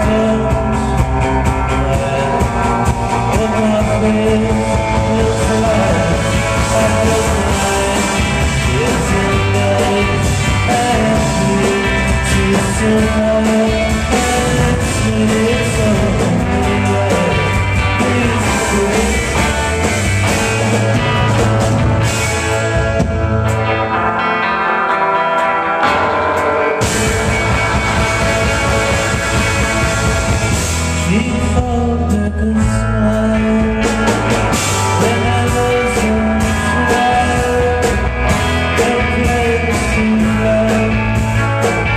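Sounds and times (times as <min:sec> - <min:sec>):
man singing lead vocal: 0:00.0 - 0:22.2, 0:28.0 - 0:41.9
drums: 0:00.0 - 0:41.9
jangly electric guitars: 0:00.0 - 0:41.9.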